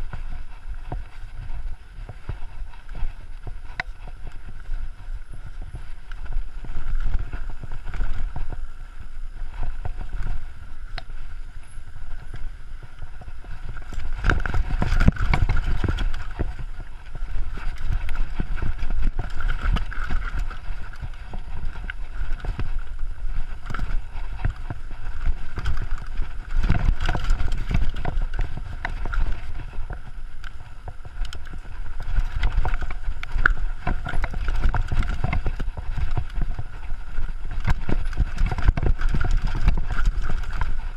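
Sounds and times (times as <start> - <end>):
bike knocking and rattling: 0.0 - 40.9
bike tyres rumbling on dirt trail: 0.0 - 40.9
wind: 0.0 - 40.9.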